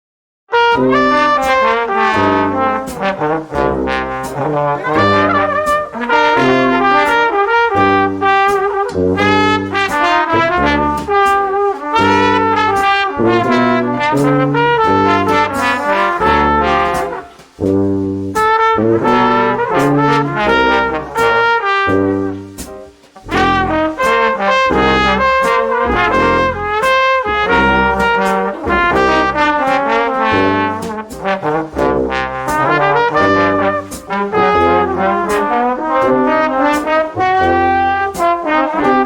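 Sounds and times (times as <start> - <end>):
brass instrumental music: 0.5 - 39.0.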